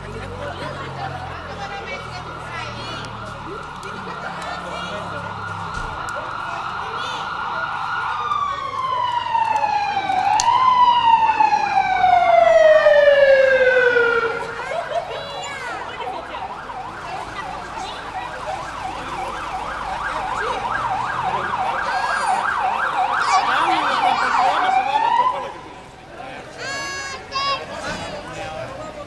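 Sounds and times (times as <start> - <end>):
fire engine siren: 0.6 - 27.1.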